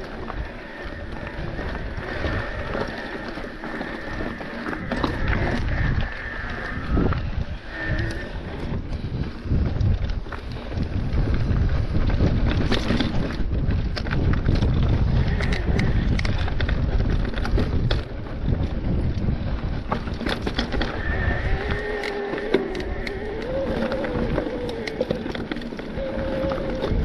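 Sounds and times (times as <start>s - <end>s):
mountain bike rattling: 0.0s - 27.0s
tyres crunching on stones: 0.0s - 27.0s
wind buffeting microphone: 0.0s - 27.0s.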